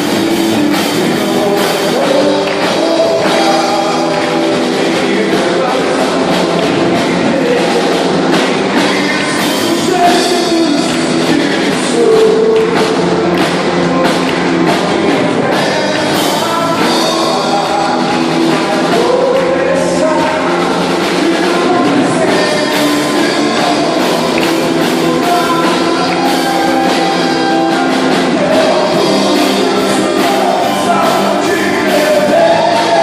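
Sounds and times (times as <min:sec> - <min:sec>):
band playing: 0:00.0 - 0:33.0
lead singer singing: 0:00.0 - 0:33.0
steady drum beat: 0:00.0 - 0:33.0.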